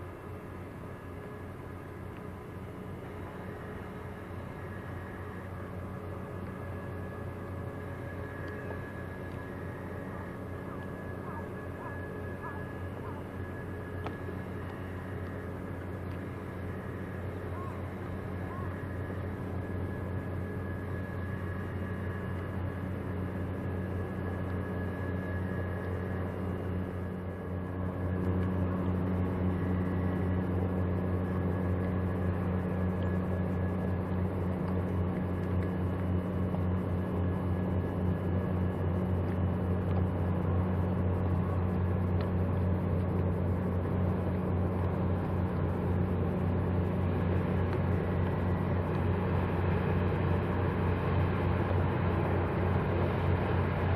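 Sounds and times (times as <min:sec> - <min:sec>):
ferry diesel engines droning: 0:00.0 - 0:53.9.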